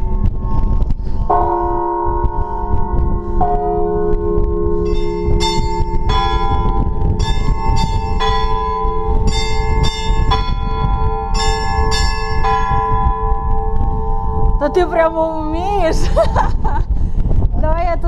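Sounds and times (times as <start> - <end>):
small church bells struck: 0.0 - 15.0
large bell humming: 0.0 - 16.6.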